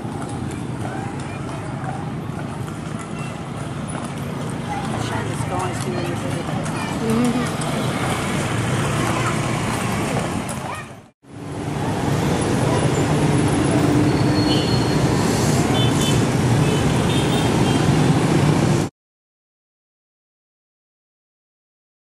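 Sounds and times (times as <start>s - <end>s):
motorbike and car engines: 0.0s - 18.9s.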